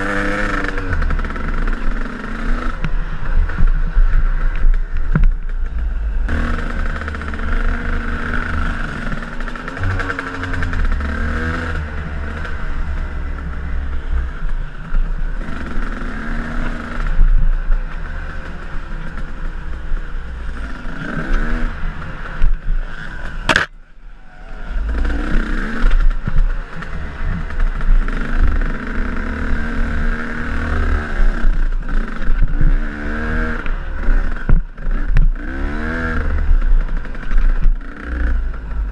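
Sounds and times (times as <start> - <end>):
dirt bike engine revving: 0.0 - 23.7, 24.4 - 38.9.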